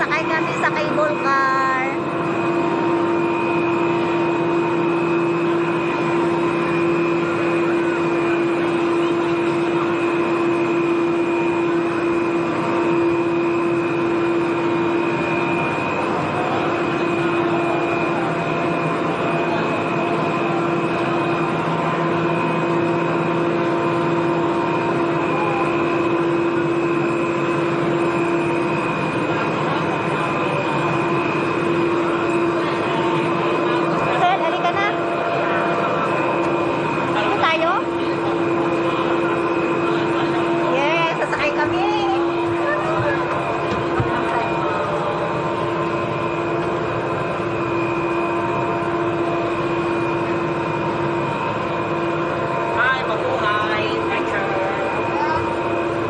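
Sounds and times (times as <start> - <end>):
gondola drive machinery humming: 0.0 - 56.0.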